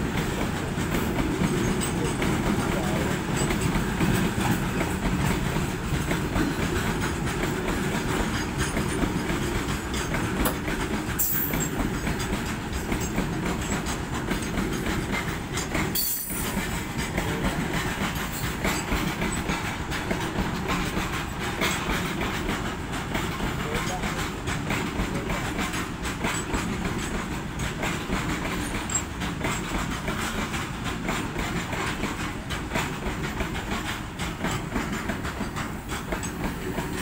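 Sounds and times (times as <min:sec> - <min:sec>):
clickety-clack over rail joints: 0:00.0 - 0:37.0
freight train rolling rumble: 0:00.0 - 0:37.0.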